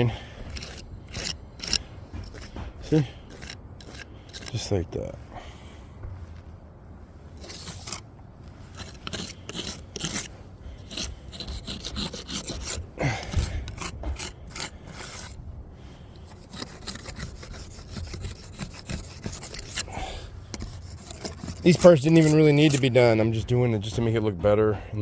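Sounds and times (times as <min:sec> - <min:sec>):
jointing tool scraping mortar: 0:00.0 - 0:05.1, 0:07.4 - 0:15.4, 0:16.1 - 0:25.0.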